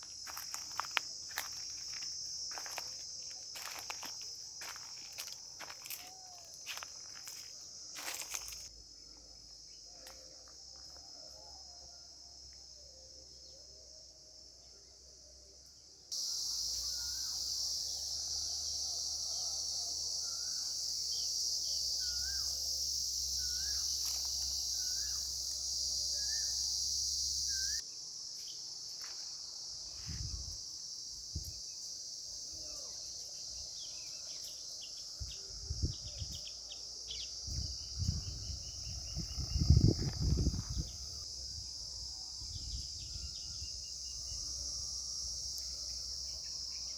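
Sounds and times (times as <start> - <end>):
high-pitched insect drone: 0.0 - 14.9, 16.1 - 46.9.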